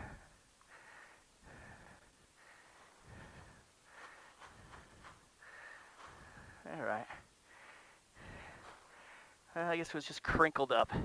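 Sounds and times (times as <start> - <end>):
faint breathing puffs: 0.0 - 9.5.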